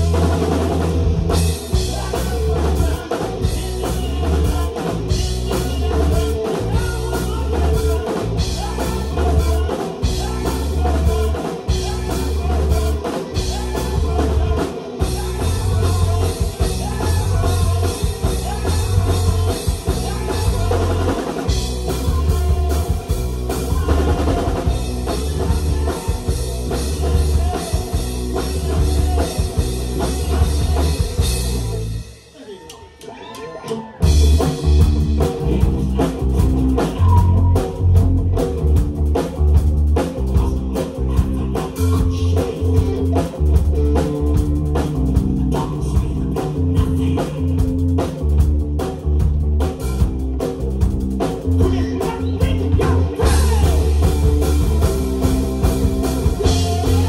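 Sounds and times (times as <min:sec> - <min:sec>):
drum kit beat: 0:00.0 - 0:33.1, 0:34.0 - 0:57.0
live rock band playing: 0:00.0 - 0:57.0.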